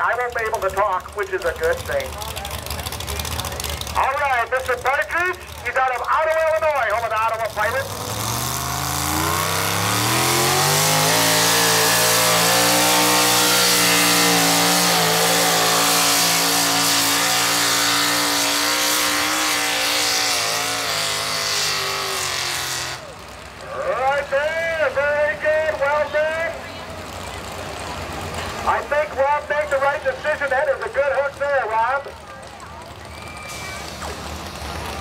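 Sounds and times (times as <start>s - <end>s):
truck engine revving under load: 0.0s - 35.0s.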